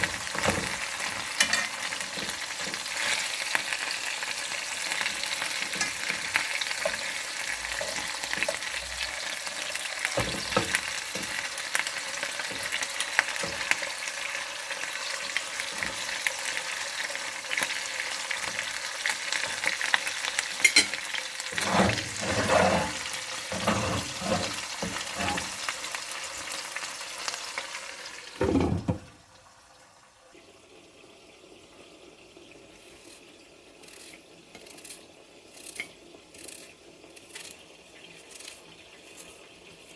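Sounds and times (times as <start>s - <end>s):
utensil scraping a pan: 0.0s - 14.4s, 15.1s - 16.9s, 17.5s - 26.1s, 32.7s - 39.9s
food sizzling in oil: 0.0s - 39.9s.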